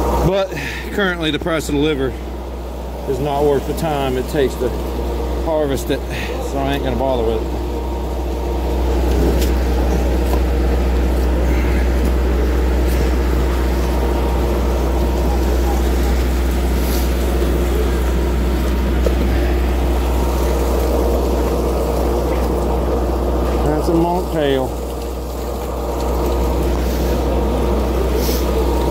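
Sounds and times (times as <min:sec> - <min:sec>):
boat engine and machinery drone: 0:00.0 - 0:28.9.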